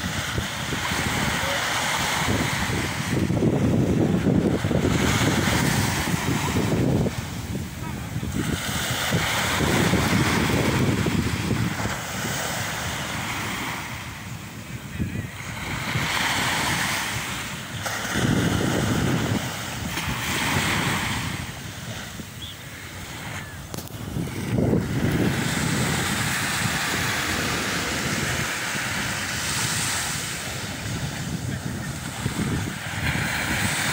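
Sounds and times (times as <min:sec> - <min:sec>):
small waves on sandy beach: 0:00.0 - 0:33.9
wind buffeting microphone: 0:00.0 - 0:33.9.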